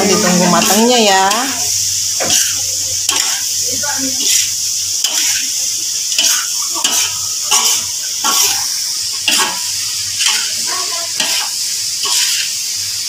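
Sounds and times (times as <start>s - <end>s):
food sizzling in a wok: 0.0s - 13.0s
spatula scraping a wok: 0.0s - 13.0s.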